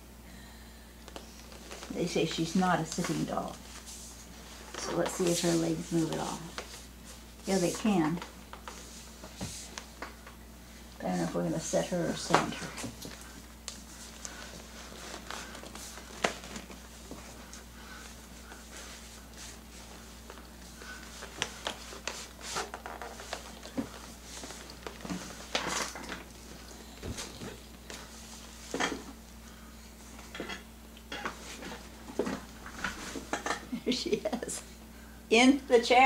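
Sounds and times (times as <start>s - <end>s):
steady low hum: 0.0s - 36.0s
doll handling rustles and knocks: 1.1s - 10.4s, 11.1s - 29.2s, 30.0s - 33.7s.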